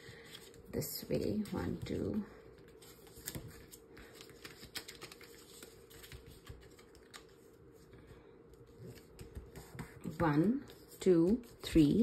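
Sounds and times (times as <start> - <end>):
paper being handled and folded: 0.0 - 12.0.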